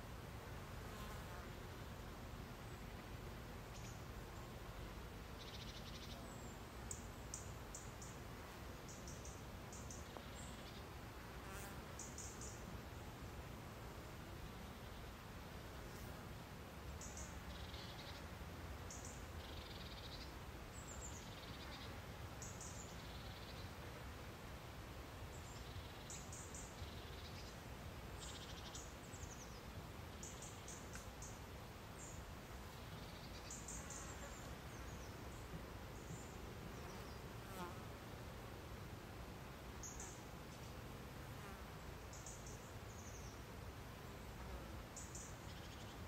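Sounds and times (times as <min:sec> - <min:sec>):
steady low hiss: 0:00.0 - 0:46.0.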